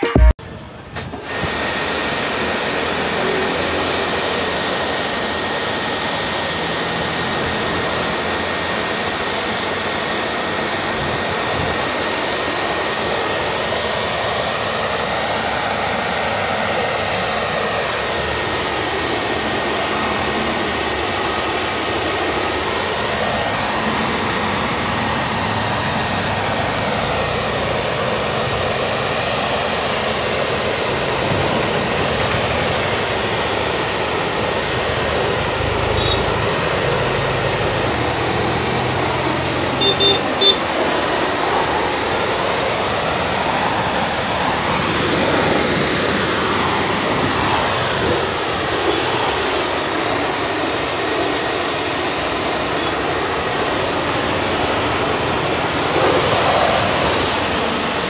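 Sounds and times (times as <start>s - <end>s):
thin steady whine: 0.0s - 58.0s
pressure washer spraying: 0.8s - 58.0s.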